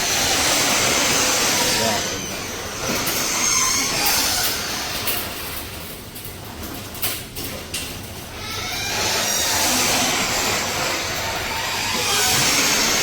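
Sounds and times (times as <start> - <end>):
garage door rattling rumble: 0.0 - 13.0.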